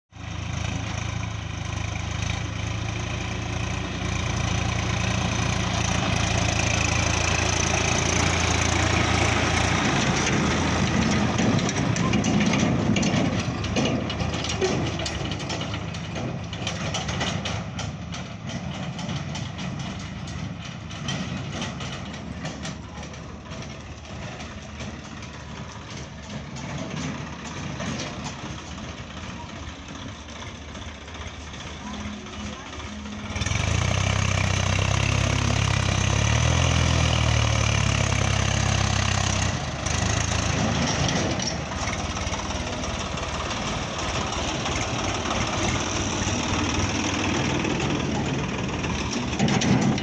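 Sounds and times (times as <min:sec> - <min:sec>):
tractor diesel engine running: 0:00.1 - 0:50.0.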